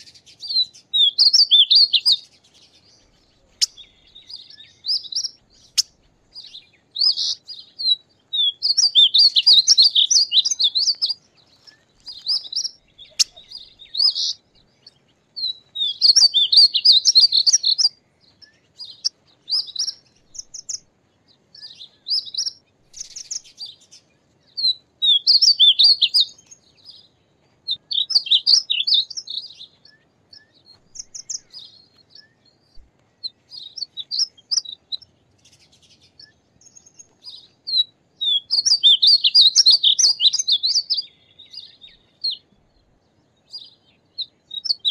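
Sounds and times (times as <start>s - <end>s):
bird singing warbled phrases: 0.0s - 44.9s.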